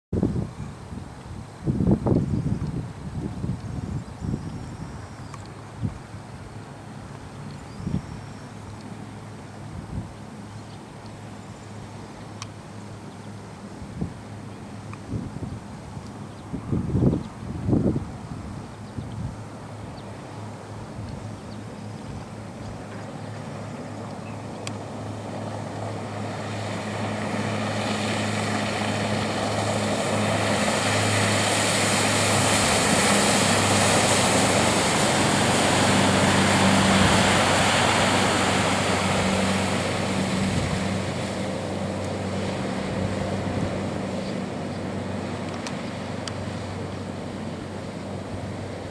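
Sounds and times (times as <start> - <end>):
spray and wake rushing: 0.2 - 48.9
boat engines droning: 0.4 - 48.9.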